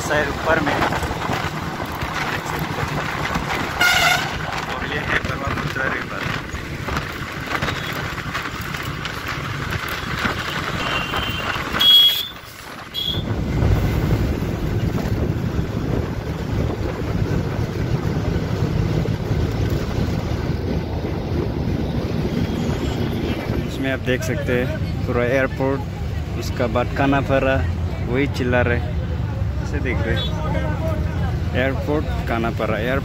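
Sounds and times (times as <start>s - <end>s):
bus engine and road rumble: 0.0s - 33.0s.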